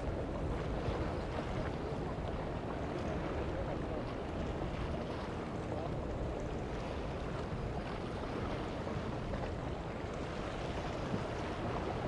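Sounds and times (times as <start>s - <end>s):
choppy water: 0.0s - 12.0s
wind on microphone: 0.0s - 12.0s.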